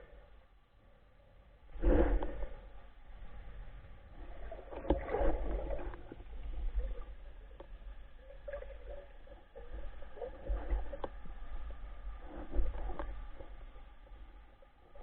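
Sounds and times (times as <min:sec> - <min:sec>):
low underwater rumble: 0:00.0 - 0:15.0
underwater water movement: 0:01.7 - 0:15.0.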